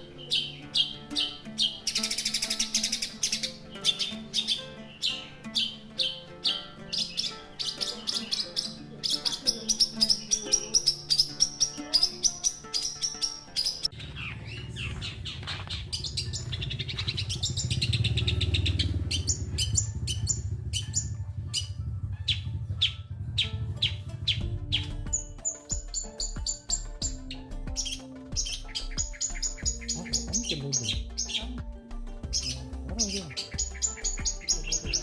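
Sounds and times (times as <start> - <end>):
background music: 0.0 - 35.0
bird singing sharp chirps: 0.0 - 35.0.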